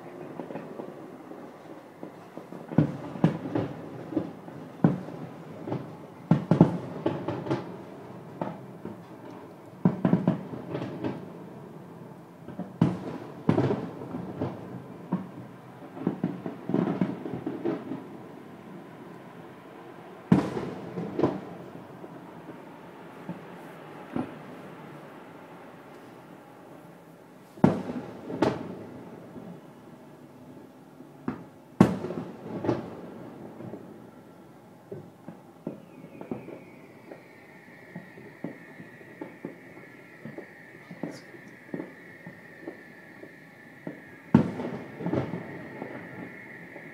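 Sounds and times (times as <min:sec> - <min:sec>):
fireworks bursting: 0:00.0 - 0:27.0, 0:27.6 - 0:46.9.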